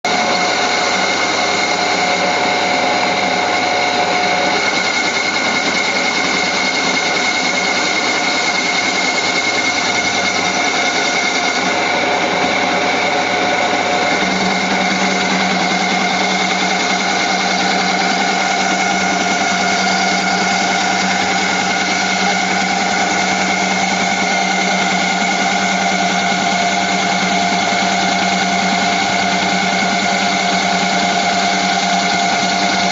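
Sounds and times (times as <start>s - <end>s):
milling machine cutting: 0.1s - 32.9s.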